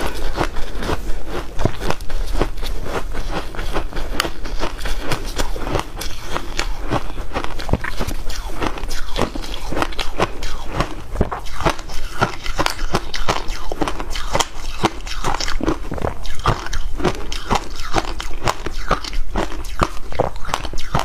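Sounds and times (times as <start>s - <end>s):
ice being crunched and chewed: 0.0s - 21.0s.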